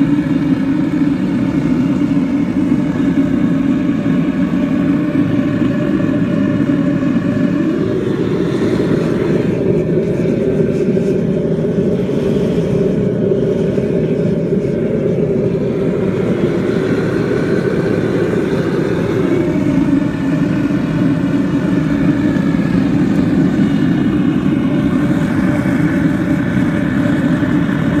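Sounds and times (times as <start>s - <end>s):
gas burner roaring: 0.0s - 28.0s.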